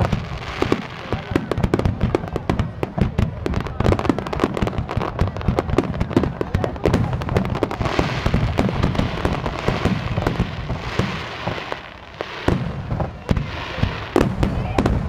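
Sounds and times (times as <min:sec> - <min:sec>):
firework bangs: 0:00.0 - 0:15.0
firework crackling hiss: 0:00.0 - 0:15.0.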